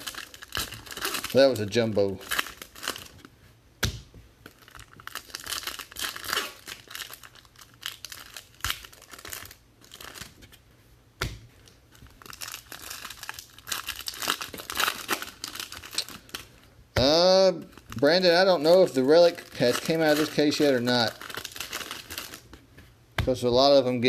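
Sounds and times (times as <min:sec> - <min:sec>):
wrappers tearing and crinkling: 0:00.0 - 0:03.3, 0:04.5 - 0:10.4, 0:11.9 - 0:22.6.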